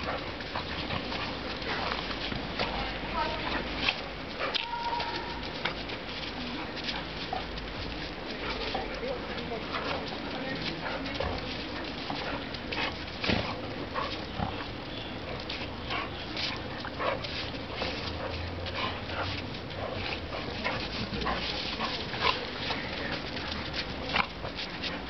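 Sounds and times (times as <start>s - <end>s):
dogs play-fighting: 0.0s - 25.0s.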